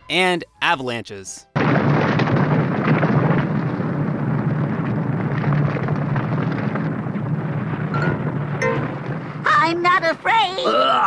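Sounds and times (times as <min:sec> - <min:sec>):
avalanche rushing: 0:01.6 - 0:11.0.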